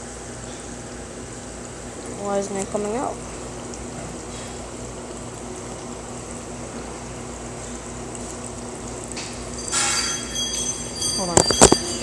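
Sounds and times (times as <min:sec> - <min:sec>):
background hiss and hum: 0:00.0 - 0:12.0.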